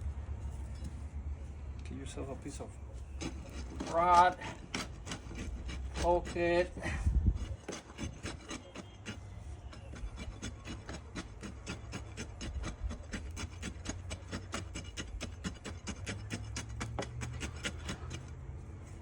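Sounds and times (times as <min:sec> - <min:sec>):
metal rod scraping in dry concrete mix: 0:02.2 - 0:19.0.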